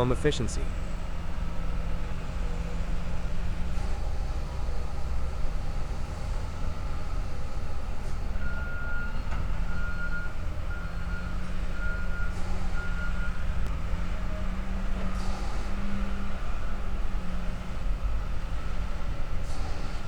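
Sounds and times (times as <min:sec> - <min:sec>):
low rumble of sawmill machinery: 0:00.0 - 0:20.0.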